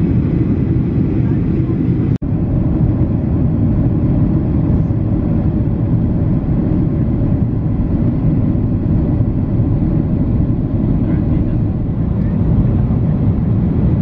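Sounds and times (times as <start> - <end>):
airflow: 0.0 - 14.0
airplane cabin engine roar: 0.0 - 14.0.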